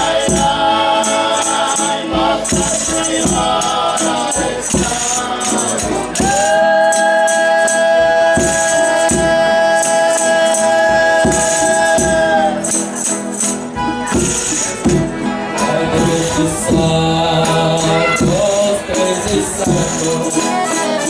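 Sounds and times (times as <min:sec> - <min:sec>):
group of voices holding a chord: 0:00.0 - 0:21.0
tambourine and rattling percussion: 0:00.0 - 0:21.0.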